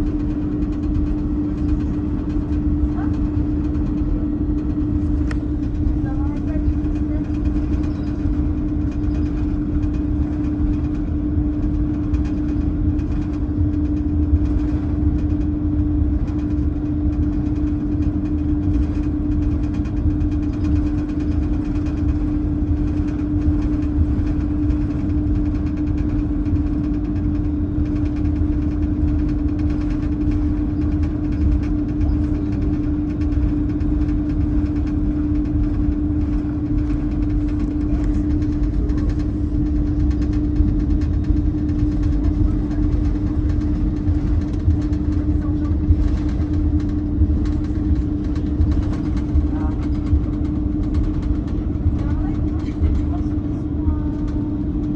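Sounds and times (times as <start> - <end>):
airliner cabin low rumble: 0.0 - 54.9
constant hum: 0.0 - 54.9.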